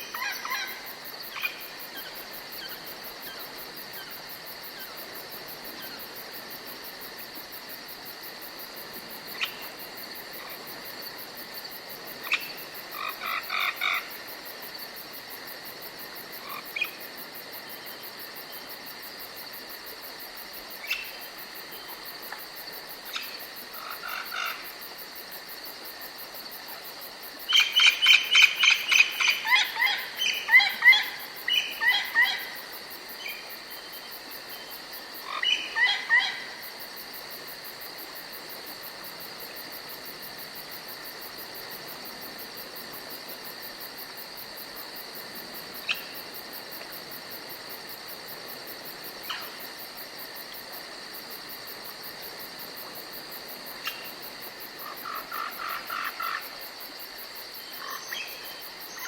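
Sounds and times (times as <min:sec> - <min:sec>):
high insect chirr: 0:00.0 - 0:59.0.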